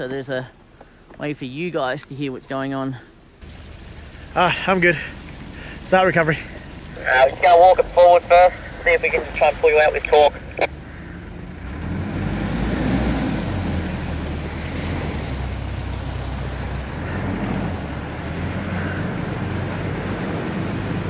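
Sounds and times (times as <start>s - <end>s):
engine running under load: 3.2s - 21.0s.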